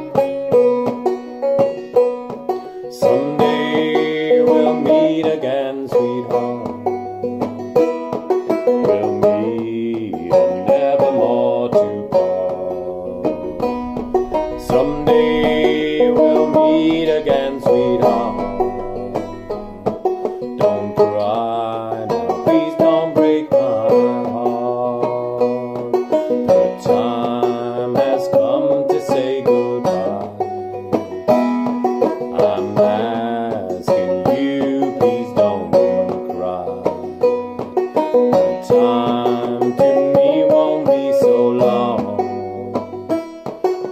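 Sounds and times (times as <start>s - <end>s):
banjo playing: 0.0s - 43.9s
man singing: 2.9s - 7.0s, 8.7s - 30.5s, 32.1s - 37.3s, 38.3s - 43.0s.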